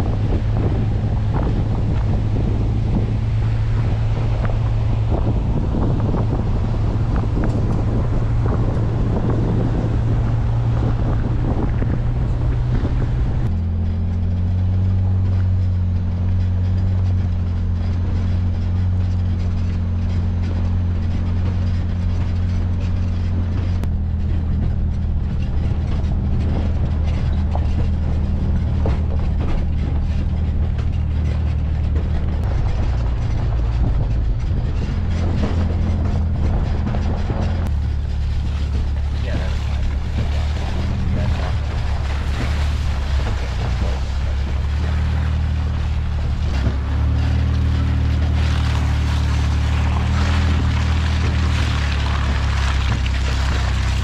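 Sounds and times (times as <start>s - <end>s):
truck engine running under load: 0.0s - 54.0s
tyres on gravel road: 0.0s - 54.0s
wind noise: 0.0s - 54.0s.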